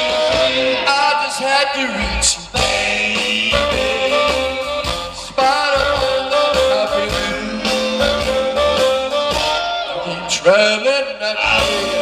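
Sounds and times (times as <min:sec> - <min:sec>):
guitar: 0:00.0 - 0:12.0
person singing: 0:00.0 - 0:12.0
rock and roll band playing: 0:00.0 - 0:12.0.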